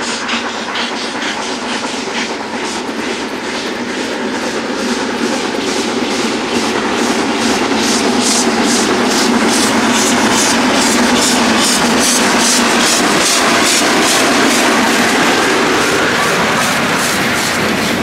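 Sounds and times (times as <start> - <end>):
steam hissing: 0.0 - 18.0
steam locomotive exhaust beats: 0.0 - 18.0.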